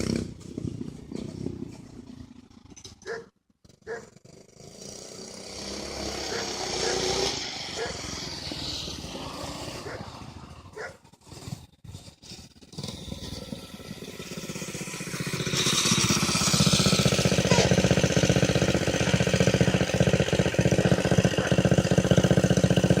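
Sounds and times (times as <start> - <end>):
small engine pulsing: 3.1 - 23.0.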